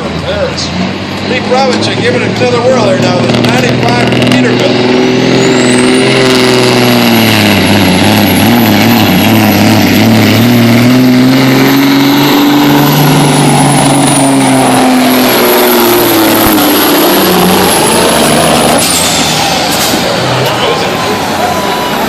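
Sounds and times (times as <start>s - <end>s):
diesel truck engine under load: 0.0s - 22.0s.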